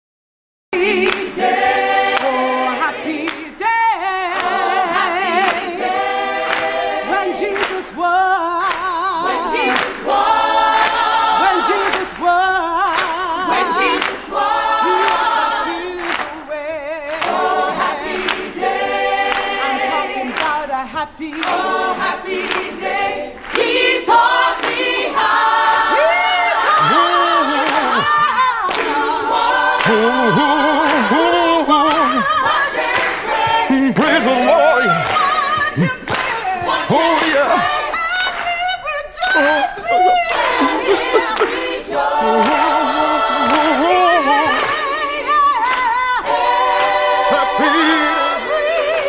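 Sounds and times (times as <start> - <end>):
gospel choir singing: 0.8 - 49.0.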